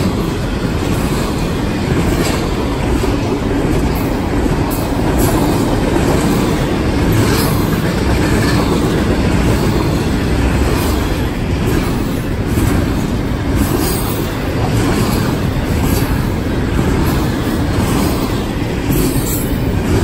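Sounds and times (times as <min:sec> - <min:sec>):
freight train wheels rumbling on rail: 0:00.0 - 0:20.0.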